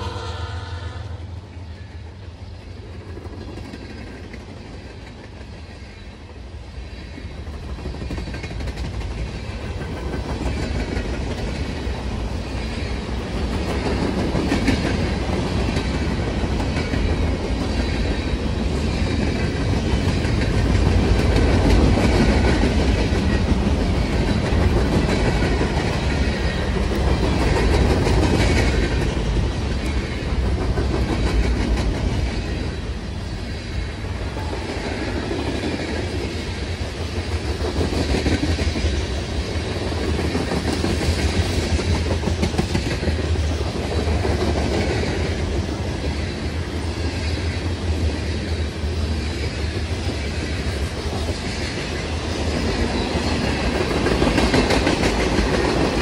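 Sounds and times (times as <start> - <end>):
freight train wheels on rail: 0.0 - 56.0.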